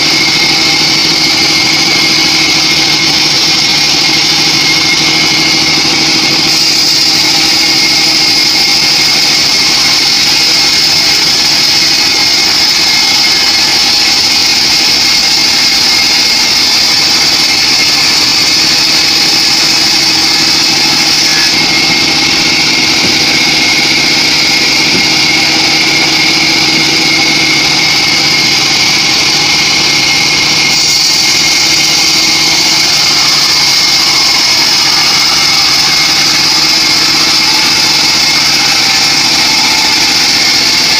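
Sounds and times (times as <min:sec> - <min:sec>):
bandsaw sawmill sawing log: 0:00.0 - 0:40.9
high whine: 0:00.0 - 0:40.9.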